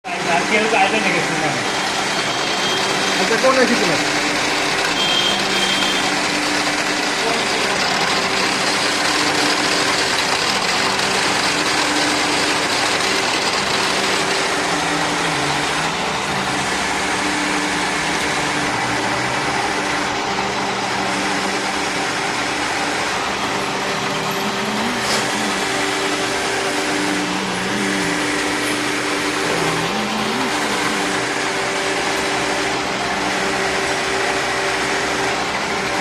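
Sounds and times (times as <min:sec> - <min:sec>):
milling machine whirring: 0:00.1 - 0:36.0.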